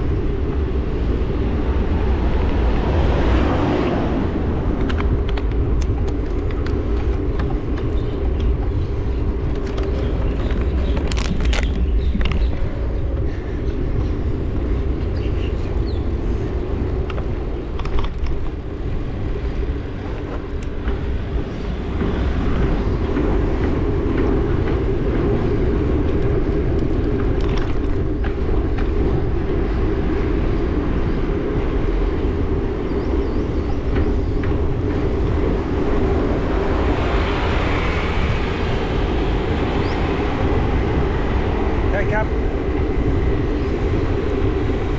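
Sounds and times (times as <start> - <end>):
traffic and road rumble: 0.0 - 44.9.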